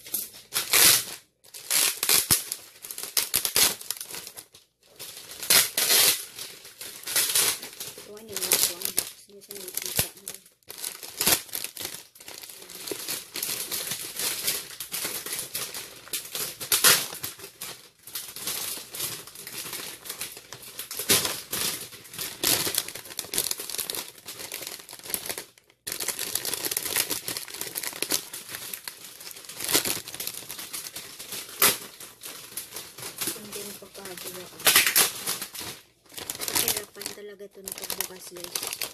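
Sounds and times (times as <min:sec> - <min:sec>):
plastic wrapping crinkling and tearing: 0:00.0 - 0:38.9.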